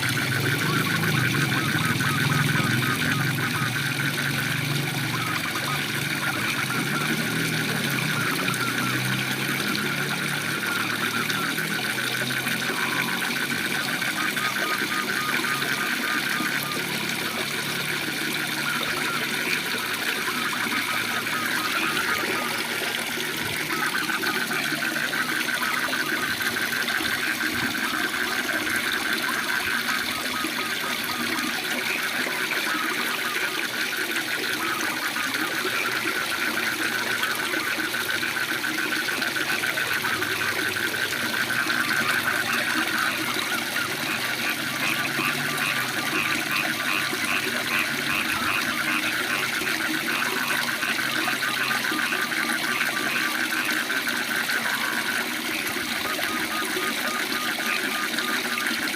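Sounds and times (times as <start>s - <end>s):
frogs trilling chorus: 0.0s - 58.9s
low pulsing frog call: 0.0s - 58.9s.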